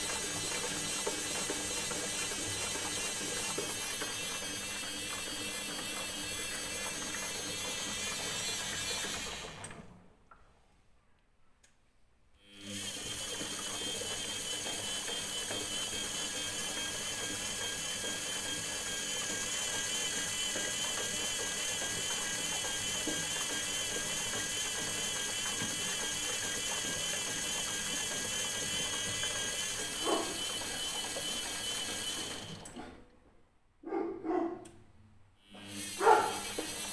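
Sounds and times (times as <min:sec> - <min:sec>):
washing machine motor whining: 0:00.0 - 0:10.1, 0:12.4 - 0:33.1, 0:35.4 - 0:36.9.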